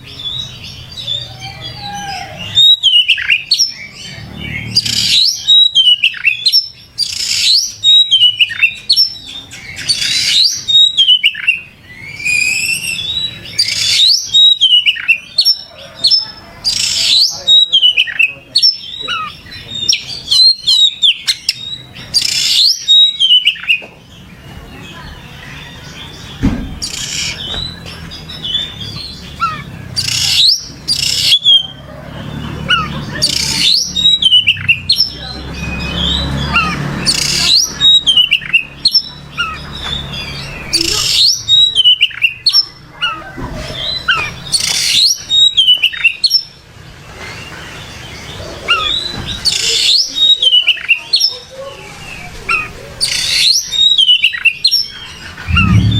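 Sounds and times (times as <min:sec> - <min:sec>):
harsh rasping bird calls: 0:00.0 - 0:23.8, 0:24.8 - 0:55.9
bird whistled song: 0:00.0 - 0:23.9, 0:26.3 - 0:31.8, 0:32.7 - 0:43.2, 0:43.8 - 0:46.6, 0:52.5 - 0:55.9.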